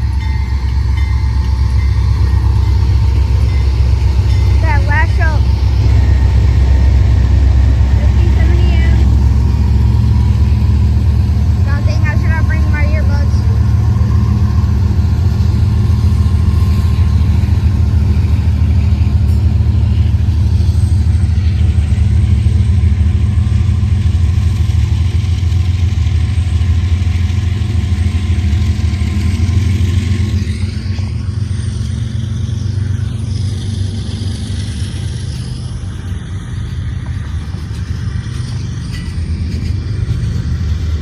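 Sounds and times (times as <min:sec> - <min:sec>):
large engine droning: 0:00.0 - 0:41.0.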